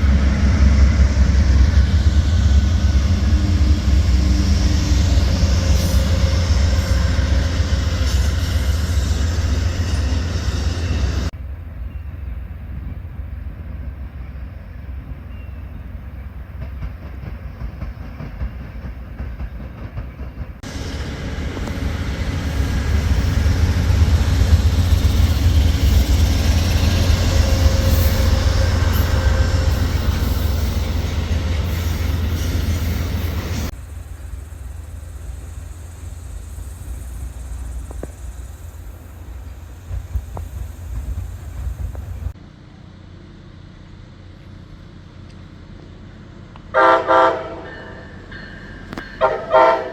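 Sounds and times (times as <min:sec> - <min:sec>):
passenger train rumbling past: 0:00.0 - 0:49.9
train cars rushing by: 0:00.0 - 0:49.9.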